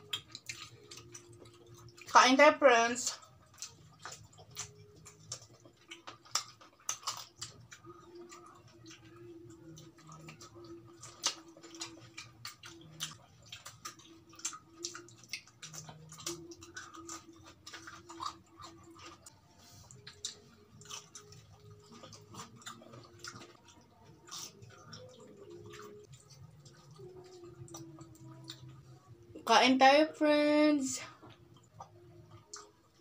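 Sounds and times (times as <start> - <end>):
people chewing with lip smacks: 0.0 - 29.4, 31.0 - 33.0.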